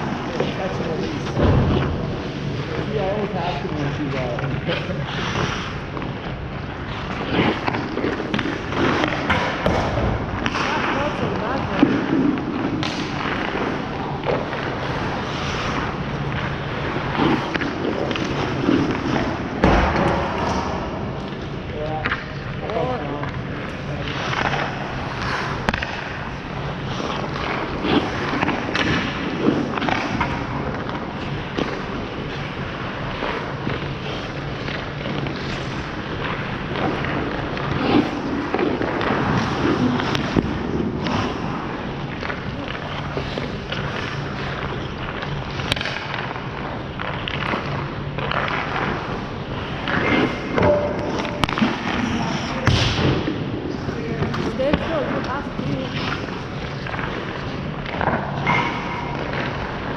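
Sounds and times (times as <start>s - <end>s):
skate blades scraping on ice: 0.0s - 59.9s.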